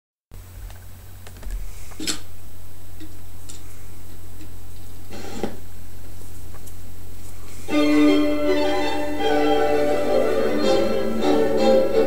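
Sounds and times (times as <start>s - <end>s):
low electrical hum: 0.3s - 12.0s.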